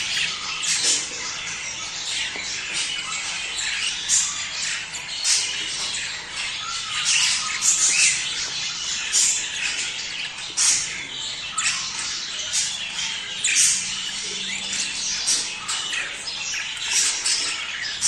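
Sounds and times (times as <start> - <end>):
budgerigars chattering: 0.0 - 18.0.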